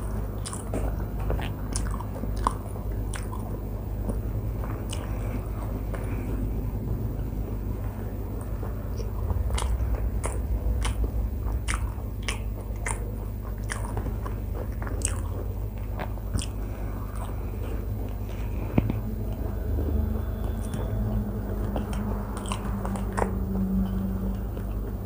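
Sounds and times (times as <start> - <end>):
close chewing with wet smacks: 0.0 - 6.5, 7.8 - 25.0.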